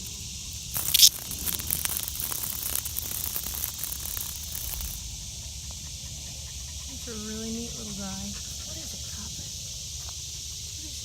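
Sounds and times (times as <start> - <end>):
cicada distress buzz: 0.0 - 11.0.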